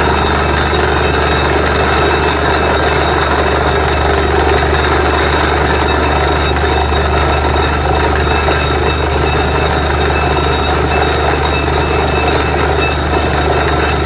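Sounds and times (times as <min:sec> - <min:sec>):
drilling rig engine drone: 0:00.0 - 0:14.0.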